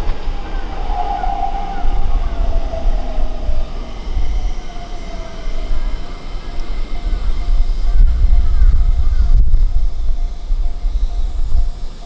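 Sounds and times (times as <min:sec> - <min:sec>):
train rumbling past with whine: 0:00.0 - 0:12.0.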